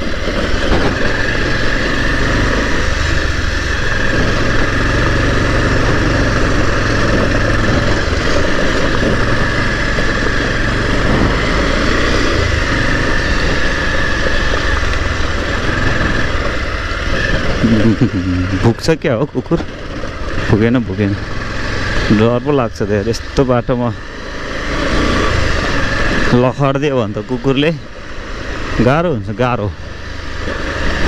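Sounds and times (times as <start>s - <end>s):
high whine: 0.0s - 31.0s
motorcycle engine running: 0.0s - 31.0s.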